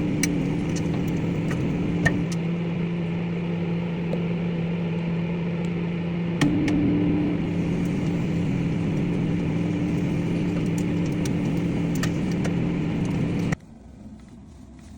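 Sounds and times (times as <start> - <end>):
microwave oven humming: 0.0 - 13.9.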